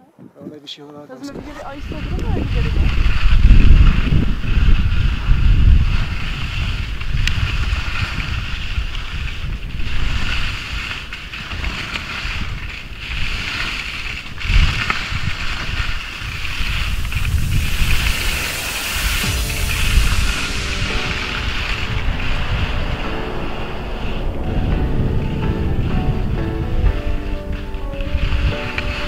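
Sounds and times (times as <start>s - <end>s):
skis scraping over snow: 1.2s - 29.0s
wind buffeting microphone: 1.3s - 29.0s.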